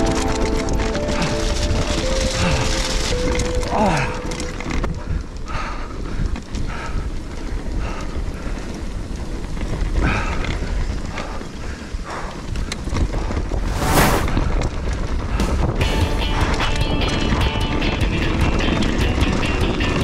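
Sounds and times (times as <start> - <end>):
bike rattling on rocky trail: 0.0 - 13.7, 14.3 - 20.0.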